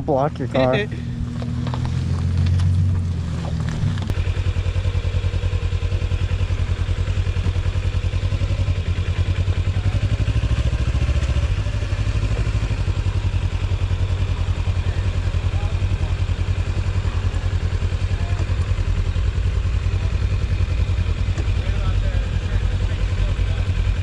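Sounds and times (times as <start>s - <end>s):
motorcycle engine starting and idling: 0.0s - 24.0s.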